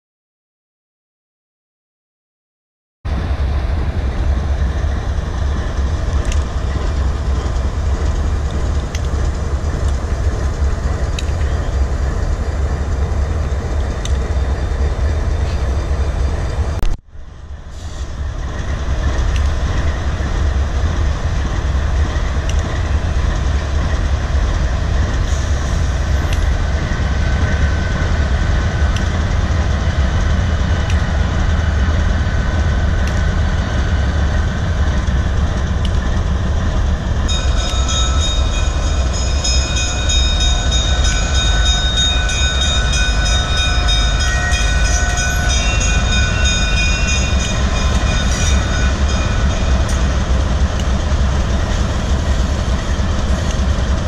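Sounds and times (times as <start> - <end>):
diesel locomotive engine rumble: 3.1 - 54.0.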